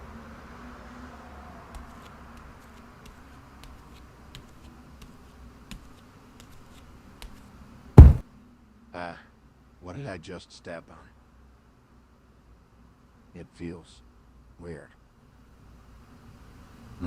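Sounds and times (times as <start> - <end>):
low background hiss and hum: 1.8 - 17.0.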